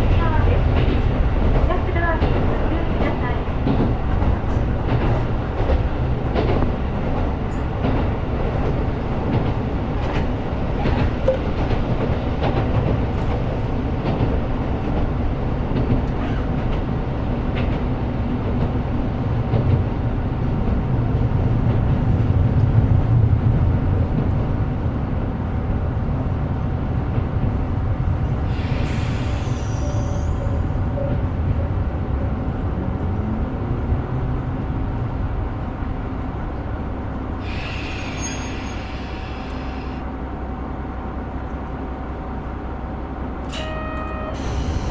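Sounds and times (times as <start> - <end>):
railcar engine and wheels droning: 0.0 - 44.9.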